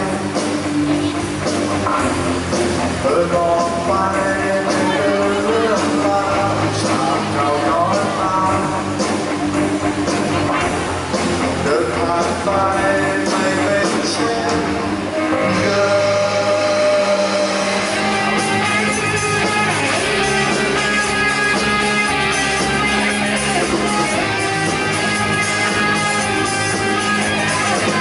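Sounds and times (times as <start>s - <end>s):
bass guitar: 0.0s - 28.0s
drum kit: 0.0s - 28.0s
electric guitars: 0.0s - 28.0s.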